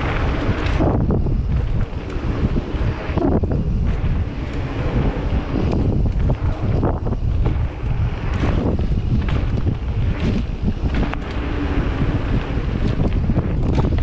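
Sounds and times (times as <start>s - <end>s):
bike clicks and rattles: 0.0s - 14.0s
tyres rolling on dirt: 0.0s - 14.0s
wind rushing over microphone: 0.0s - 14.0s.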